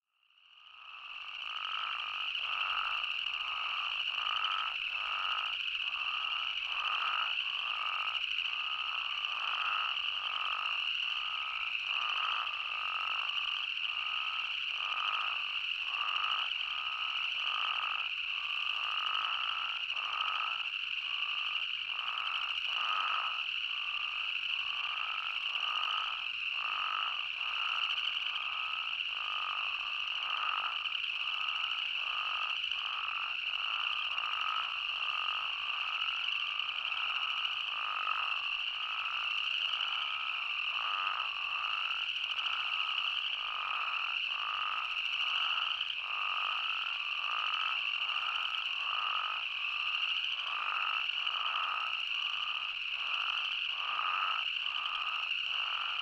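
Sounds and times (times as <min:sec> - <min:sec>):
toads calling in chorus: 0:00.7 - 0:56.0.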